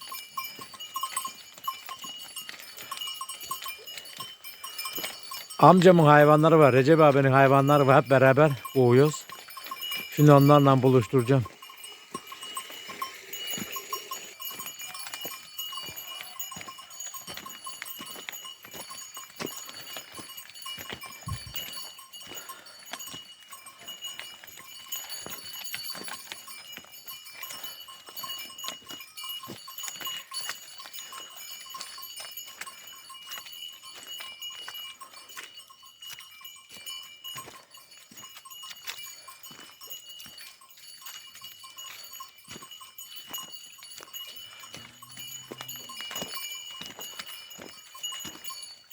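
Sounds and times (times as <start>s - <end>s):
livestock bells clanking: 0.0s - 48.9s.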